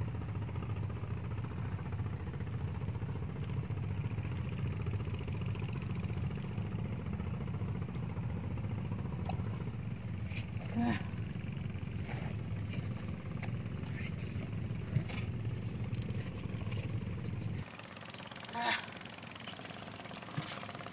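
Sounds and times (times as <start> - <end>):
small engine running: 0.0 - 20.9.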